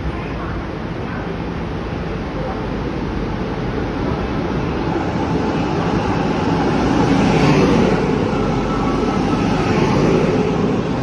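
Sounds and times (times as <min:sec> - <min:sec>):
train passing with wheel noise: 0:00.0 - 0:11.0.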